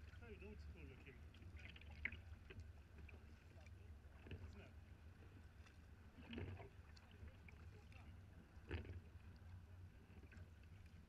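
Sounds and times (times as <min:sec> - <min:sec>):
low rumble of water: 0:00.0 - 0:11.0.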